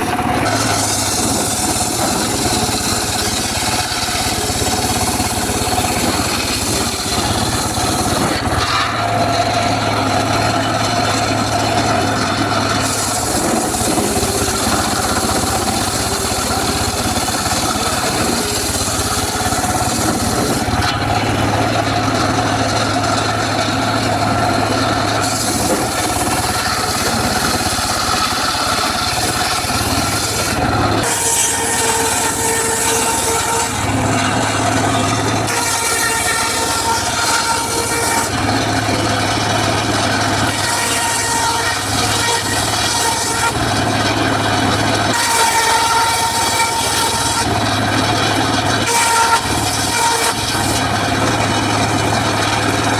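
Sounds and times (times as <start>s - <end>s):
circular saw cutting wood: 0.0s - 52.9s.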